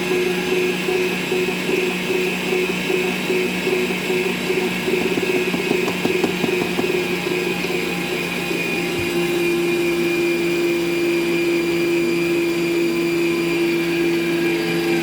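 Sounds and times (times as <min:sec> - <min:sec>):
stand mixer motor hum: 0:00.0 - 0:15.0.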